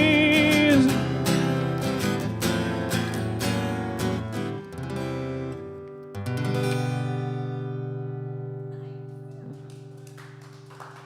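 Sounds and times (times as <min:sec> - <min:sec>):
acoustic guitar strummed chords: 0:00.0 - 0:09.2.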